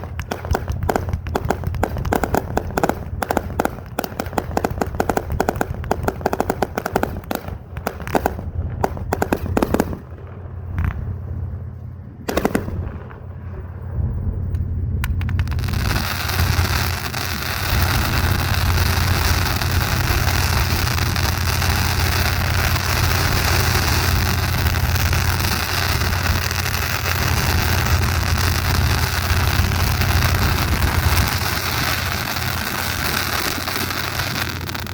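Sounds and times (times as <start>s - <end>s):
fireworks banging: 0.0s - 34.9s
rapid fireworks crackle: 0.0s - 34.9s
steady low hum: 0.0s - 34.9s.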